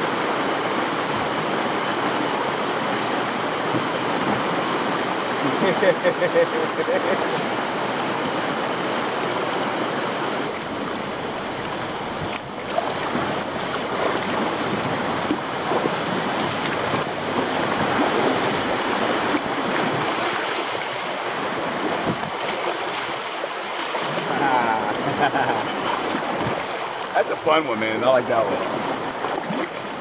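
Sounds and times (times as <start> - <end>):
river water rushing through rapids: 0.0 - 30.0.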